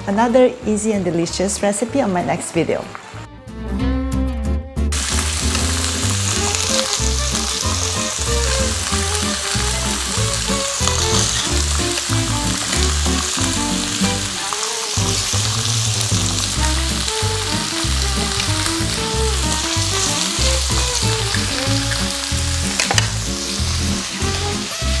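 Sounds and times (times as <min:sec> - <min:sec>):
background music: 0:00.0 - 0:25.0
food sizzling in a hot pan: 0:05.0 - 0:25.0.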